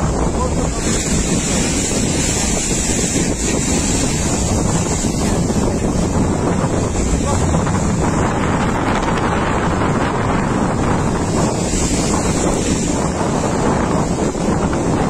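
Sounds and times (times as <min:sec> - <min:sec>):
strong wind buffeting microphone: 0:00.0 - 0:15.0
surf: 0:00.0 - 0:15.0.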